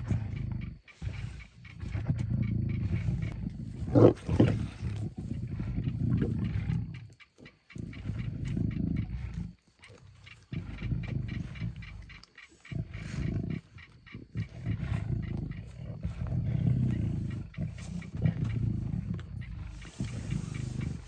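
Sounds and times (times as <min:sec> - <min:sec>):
lions growling: 0:00.0 - 0:21.0.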